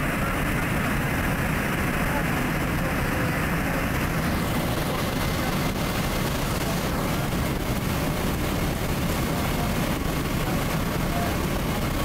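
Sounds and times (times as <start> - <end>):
jet aircraft roar: 0.0 - 12.0.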